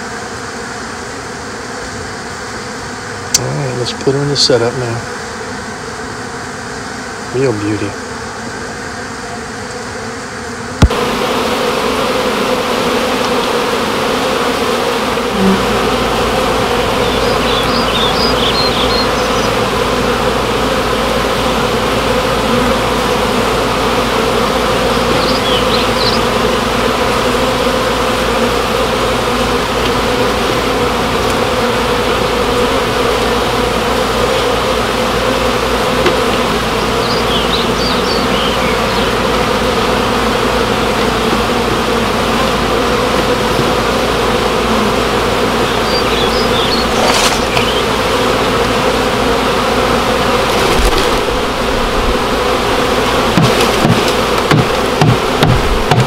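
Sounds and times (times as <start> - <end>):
honey bees buzzing: 0.0 - 56.0.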